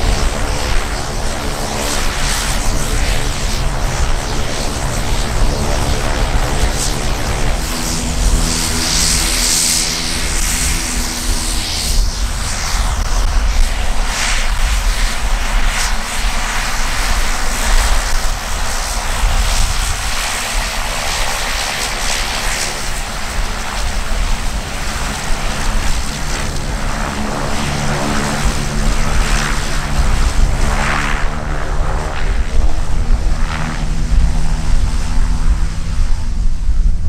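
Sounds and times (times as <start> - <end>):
humming propeller tone: 0.0 - 37.0
turboprop engine running: 0.0 - 37.0.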